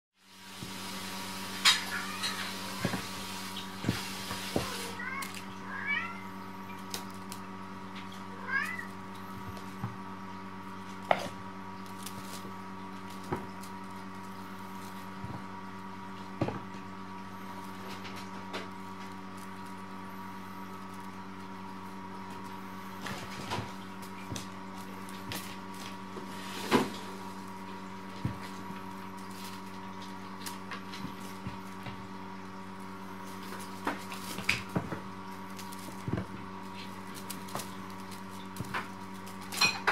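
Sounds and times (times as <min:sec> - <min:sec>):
steady hum: 0:00.3 - 0:39.9.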